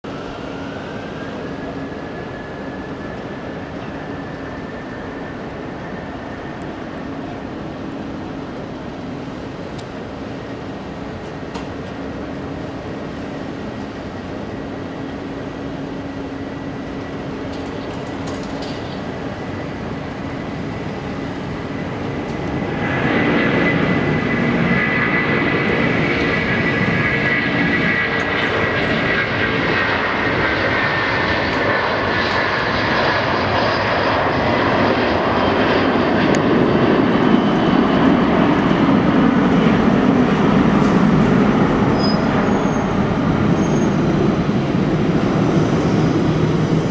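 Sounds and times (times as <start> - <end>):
jet engines whining on takeoff: 0.0 - 46.9.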